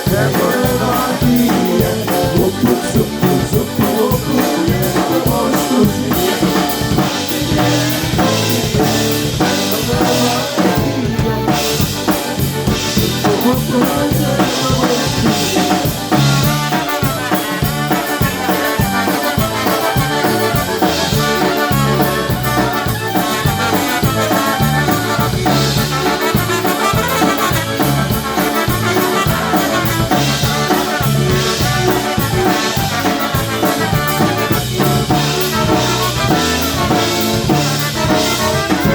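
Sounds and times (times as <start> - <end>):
drum kit beat: 0.0 - 38.9
polka band playing: 0.0 - 38.9.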